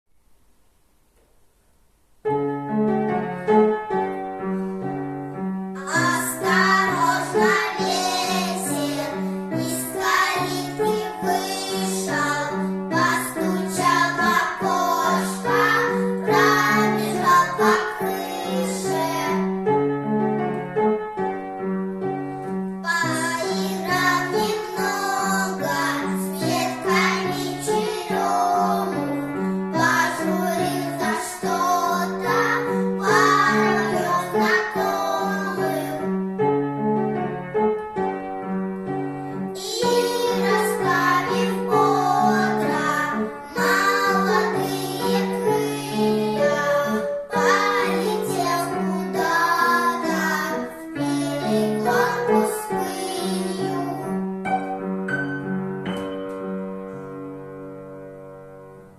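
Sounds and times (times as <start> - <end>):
keyboard accompaniment: 2.2 - 58.9.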